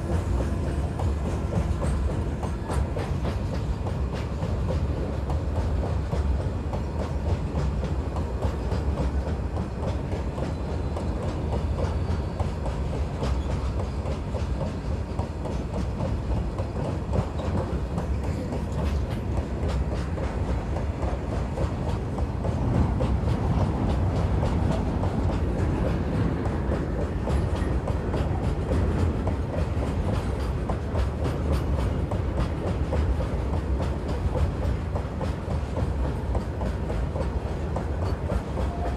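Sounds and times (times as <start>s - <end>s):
train low rumble: 0.0s - 38.9s
train wheels clicking over rail joints: 0.0s - 38.9s.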